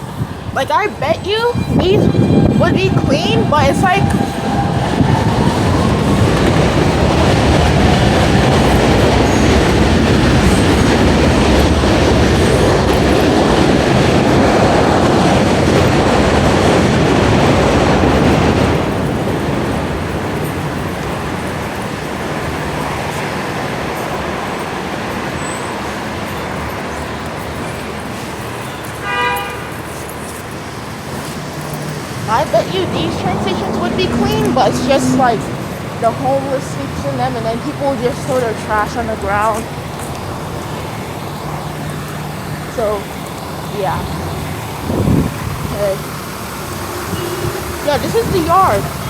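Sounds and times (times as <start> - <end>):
subway train wheel clatter: 0.0 - 49.0.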